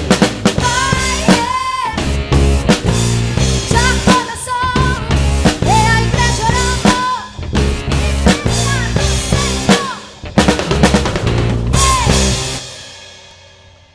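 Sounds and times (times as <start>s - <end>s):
drum kit kick and snare: 0.0s - 13.4s
rock band playing: 0.0s - 13.9s.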